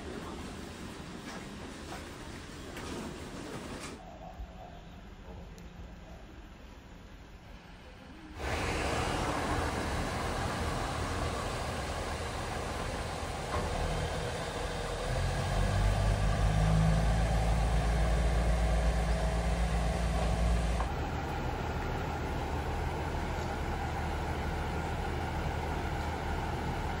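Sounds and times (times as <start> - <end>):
diesel railcar engine running: 0.0 - 4.0, 6.6 - 27.0
railcar engine idling: 0.0 - 27.0.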